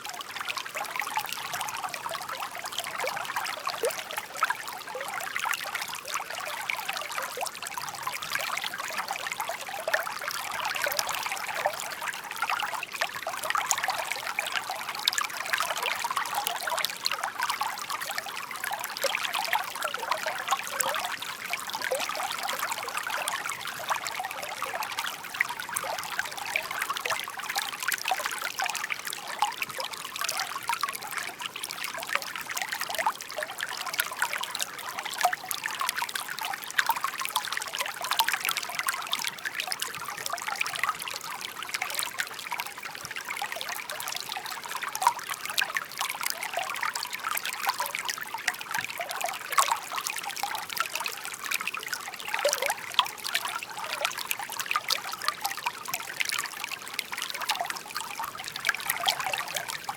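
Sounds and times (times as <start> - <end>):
brook babbling over stones: 0.0 - 59.9.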